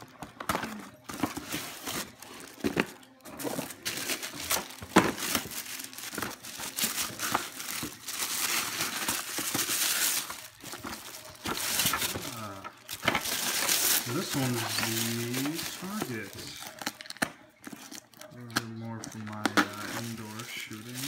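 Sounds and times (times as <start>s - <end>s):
wrapping paper tearing and crumpling: 0.0s - 21.0s.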